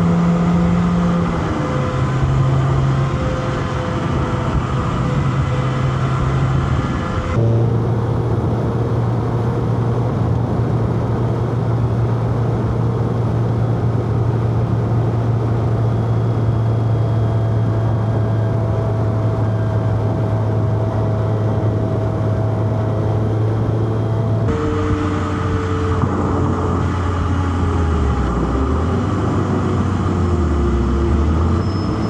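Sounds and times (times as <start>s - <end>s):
car engine humming: 0.0s - 32.0s
road and wind noise: 0.0s - 32.0s.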